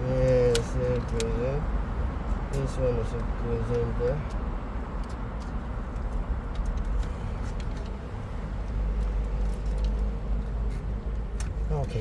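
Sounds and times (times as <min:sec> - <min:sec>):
faint clicks and taps of parts: 0:00.1 - 0:01.6, 0:02.2 - 0:08.0, 0:08.6 - 0:12.0.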